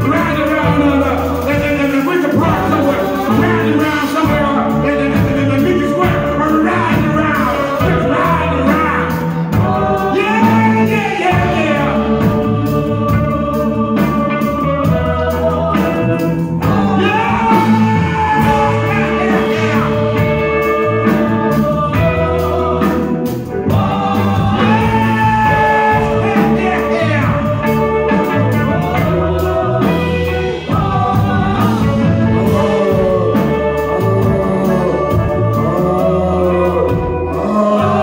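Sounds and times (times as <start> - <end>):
live band playing: 0.0 - 38.0
people singing together: 0.0 - 38.0.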